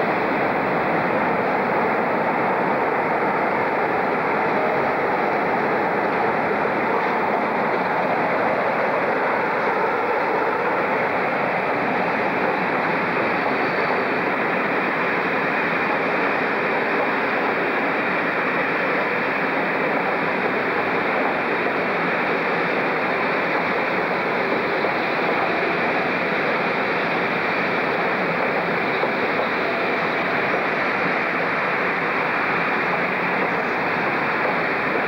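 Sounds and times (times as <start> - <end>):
train coaches rolling on rails: 0.0 - 35.0.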